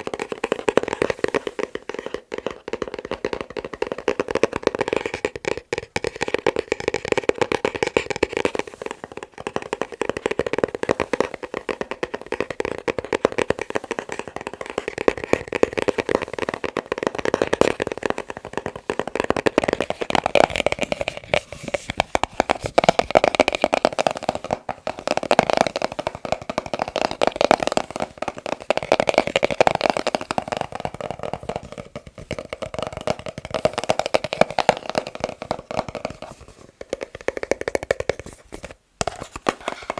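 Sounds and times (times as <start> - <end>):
fast tapping on a box: 0.0 - 39.9.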